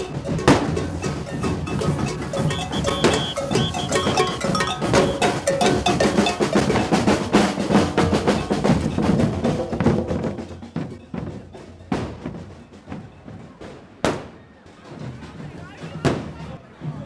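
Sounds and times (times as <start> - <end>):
drums playing fast beat: 0.0 - 17.0.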